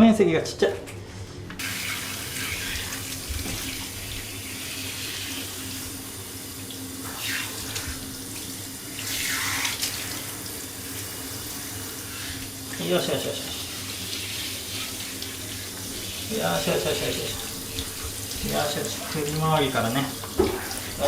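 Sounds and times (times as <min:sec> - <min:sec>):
bath water running: 0:01.6 - 0:21.0.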